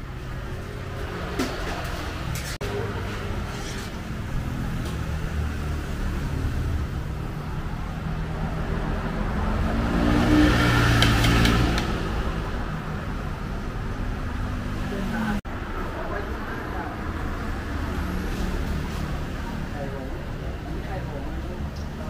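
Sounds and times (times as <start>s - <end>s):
vehicle engine passing: 0.0s - 21.7s
traffic rumble: 0.0s - 22.0s.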